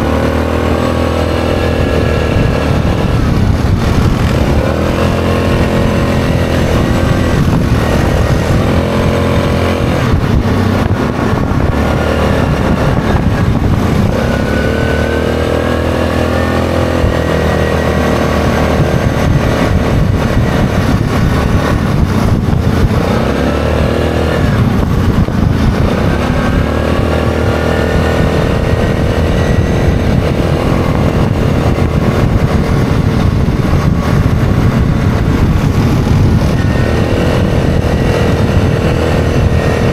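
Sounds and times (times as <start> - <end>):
atv engine revving: 0.0 - 39.9
wind rushing: 0.0 - 39.9.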